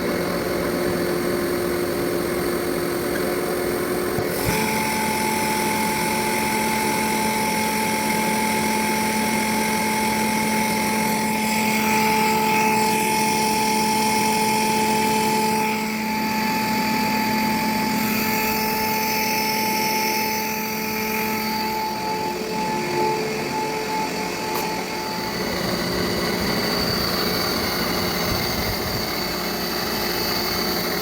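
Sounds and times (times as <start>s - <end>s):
lathe machining metal: 0.0s - 31.0s.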